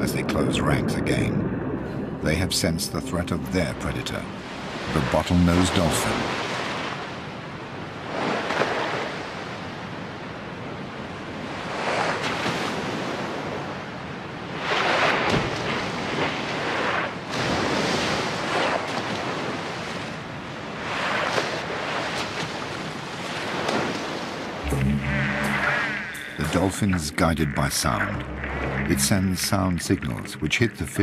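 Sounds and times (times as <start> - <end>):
rushing sea water: 0.0 - 31.0.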